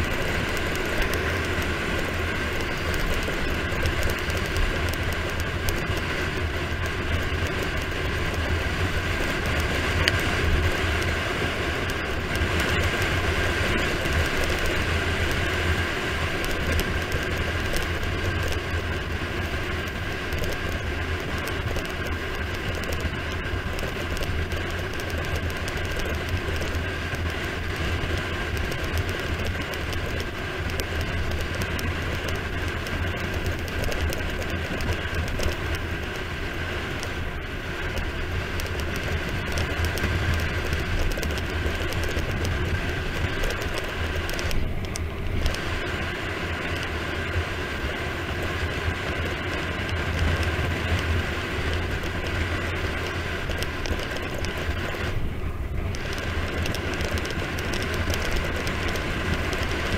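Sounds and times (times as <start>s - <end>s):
tyres rumbling on asphalt: 0.0s - 59.9s
wind rush on microphone: 0.0s - 59.9s.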